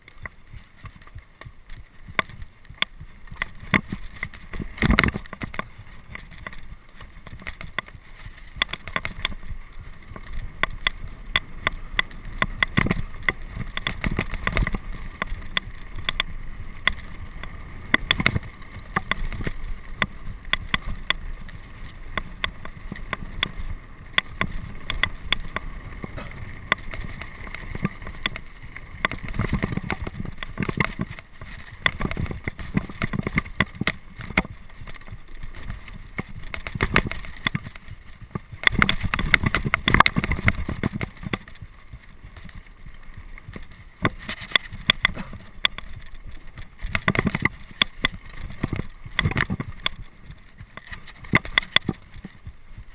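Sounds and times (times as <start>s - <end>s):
bike rattling over rocks: 0.0s - 52.9s.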